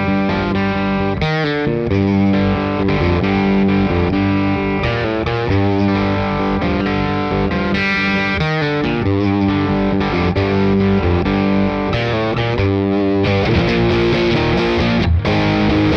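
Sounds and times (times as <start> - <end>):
overdriven electric guitar: 0.0 - 15.9.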